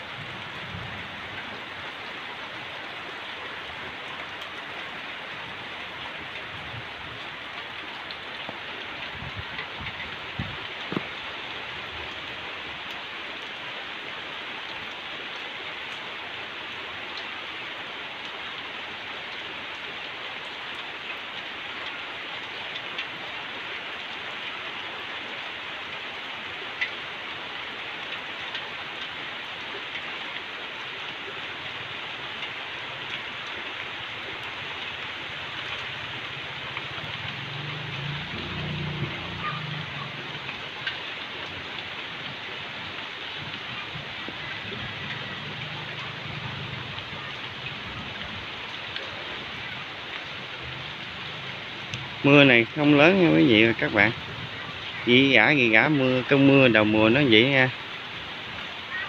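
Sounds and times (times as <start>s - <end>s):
steady rain on foliage and tiles: 0.0s - 59.0s.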